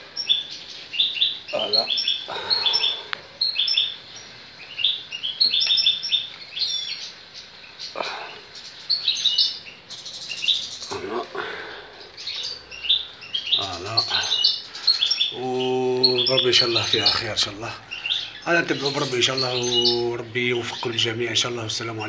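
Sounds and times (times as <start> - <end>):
finch twittering: 0.0 - 22.0.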